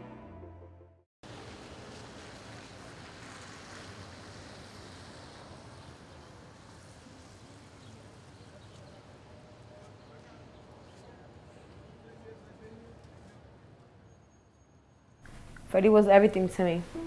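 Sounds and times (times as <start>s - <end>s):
traffic hiss: 1.2s - 13.4s, 15.2s - 17.0s.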